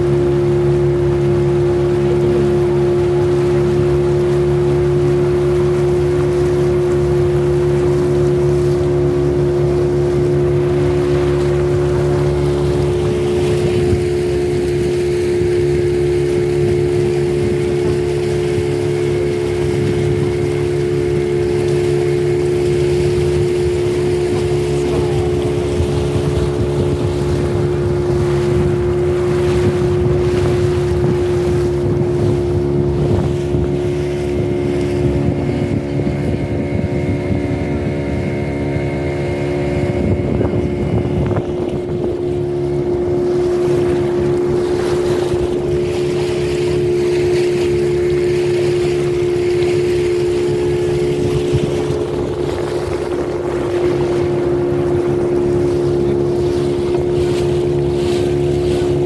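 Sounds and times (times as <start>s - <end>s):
motor boat engine running: 0.0s - 59.0s
wind on microphone: 0.0s - 59.0s.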